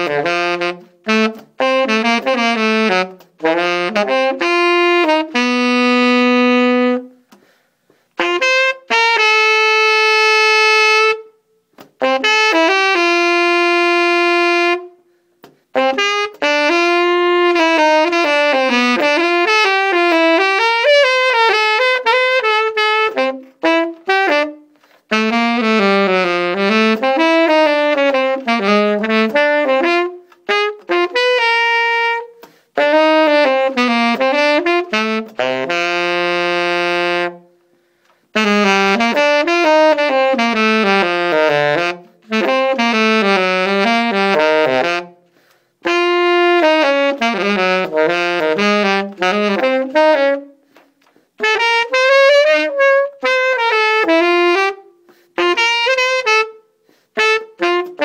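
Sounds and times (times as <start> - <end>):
tenor saxophone playing jazz: 0.0 - 58.0.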